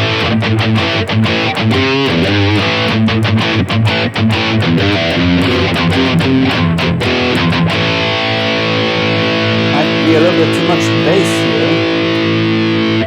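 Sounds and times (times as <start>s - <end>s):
distorted electric guitar riff: 0.0s - 13.0s.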